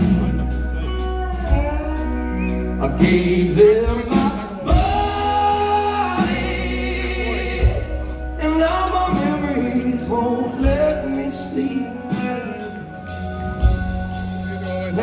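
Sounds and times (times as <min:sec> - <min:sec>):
man singing: 0:00.0 - 0:13.3
bass guitar: 0:00.0 - 0:15.0
electric guitar: 0:00.0 - 0:15.0.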